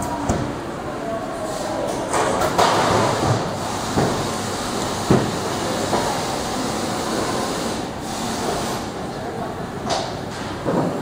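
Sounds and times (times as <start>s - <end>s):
factory floor rushing noise: 0.0s - 11.0s.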